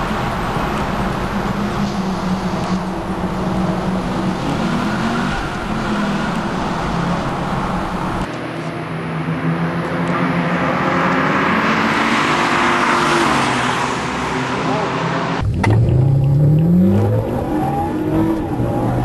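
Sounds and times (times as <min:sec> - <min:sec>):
car engine in tunnel: 0:00.0 - 0:19.0
race car engine approaching: 0:00.0 - 0:19.0.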